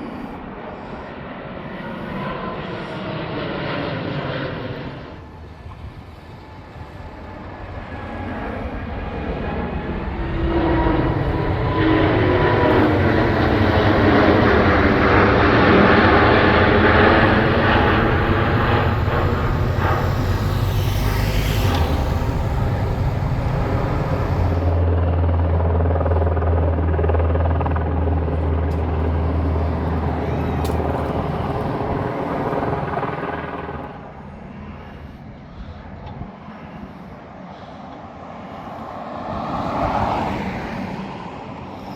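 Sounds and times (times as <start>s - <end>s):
aircraft engines passing overhead: 0.0s - 41.9s.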